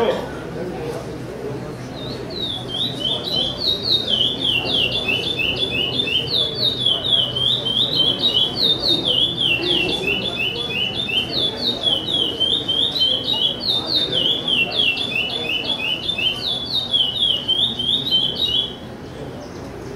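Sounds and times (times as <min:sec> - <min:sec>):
bird singing whistled notes: 0:02.0 - 0:18.9.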